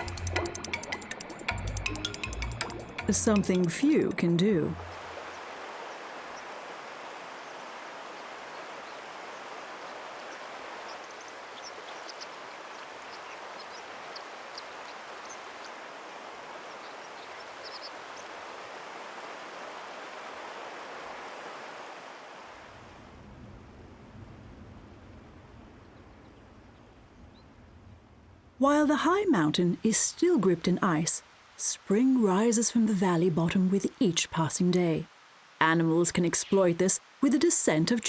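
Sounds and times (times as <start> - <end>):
rushing mountain stream: 0.0 - 23.2, 28.6 - 38.0.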